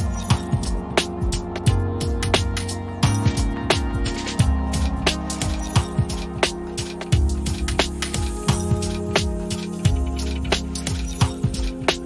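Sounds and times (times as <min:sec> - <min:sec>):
sustained bass line: 0:00.0 - 0:12.0.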